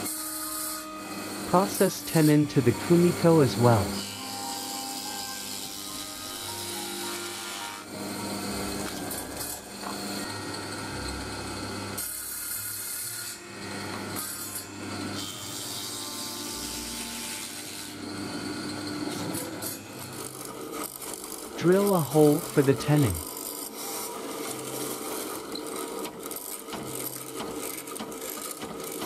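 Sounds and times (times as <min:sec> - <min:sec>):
tenoning machine humming: 0:00.0 - 0:12.5, 0:16.1 - 0:29.0.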